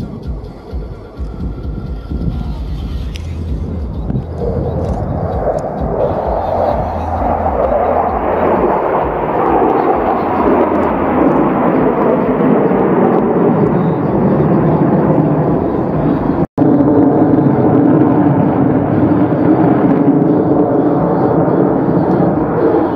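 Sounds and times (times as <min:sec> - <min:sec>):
fighter jet engines roaring: 0:00.0 - 0:22.9.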